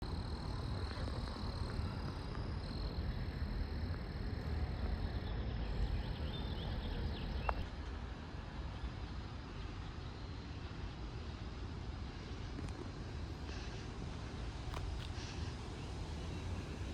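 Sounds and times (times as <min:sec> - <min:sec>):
steady low rumble: 0:00.0 - 0:16.9.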